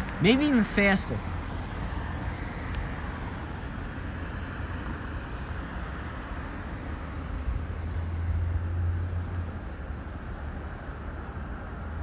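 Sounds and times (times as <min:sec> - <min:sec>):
outdoor background rumble and hiss: 0:00.0 - 0:12.0.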